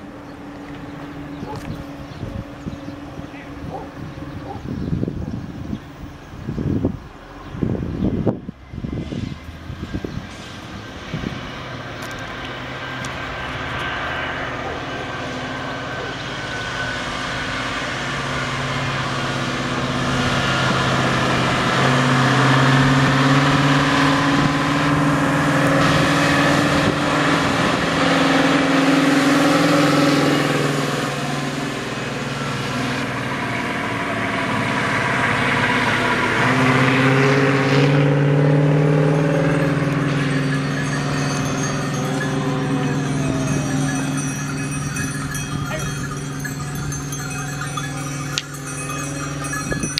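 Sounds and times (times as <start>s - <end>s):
diesel truck engine passing: 0.0s - 49.9s.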